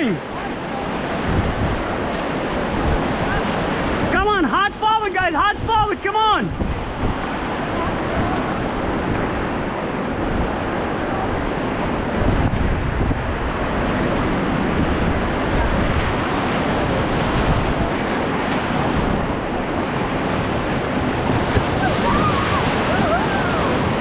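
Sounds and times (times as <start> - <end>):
wind buffeting microphone: 0.0 - 4.2, 5.2 - 24.0
whitewater rushing: 0.0 - 24.0.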